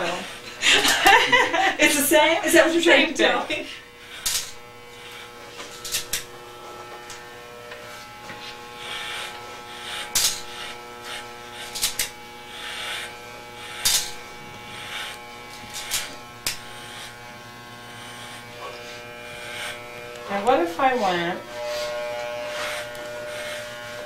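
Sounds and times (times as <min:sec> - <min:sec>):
electric hair clippers buzzing: 0:00.0 - 0:24.0.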